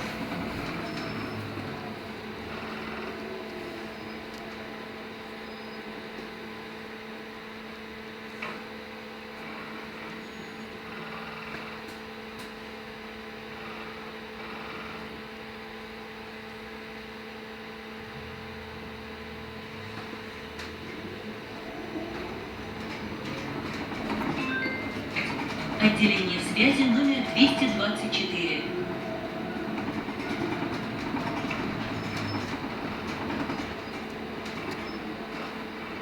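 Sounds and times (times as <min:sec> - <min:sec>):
electric bus hum: 0:00.0 - 0:36.0.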